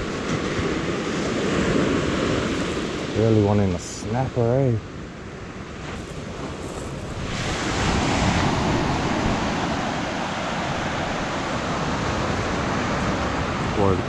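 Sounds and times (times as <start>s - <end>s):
surf washing up shingle beach: 0.0s - 14.0s.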